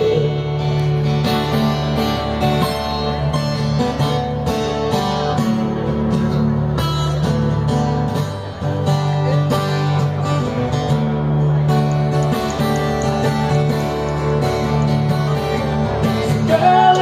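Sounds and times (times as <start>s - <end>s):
band playing country music: 0.0s - 17.0s
strummed acoustic guitar: 0.0s - 17.0s.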